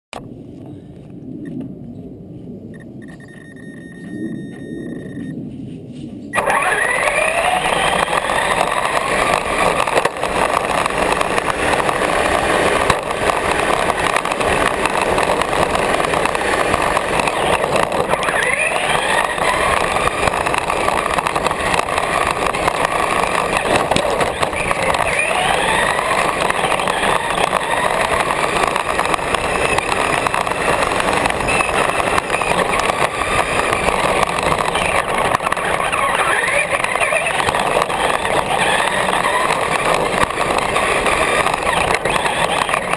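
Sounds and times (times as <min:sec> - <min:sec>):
toy car motor whining: 0:06.4 - 0:42.9.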